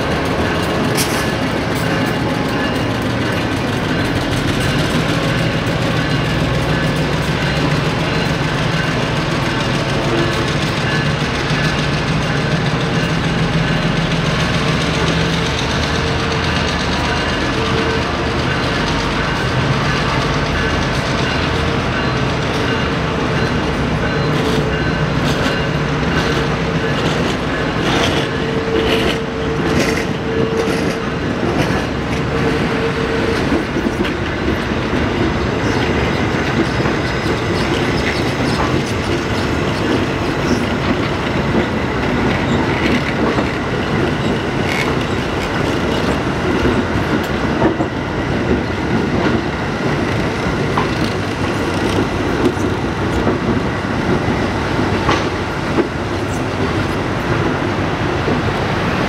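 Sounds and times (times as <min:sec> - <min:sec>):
train wheels clicking over rail joints: 0:00.0 - 0:58.5.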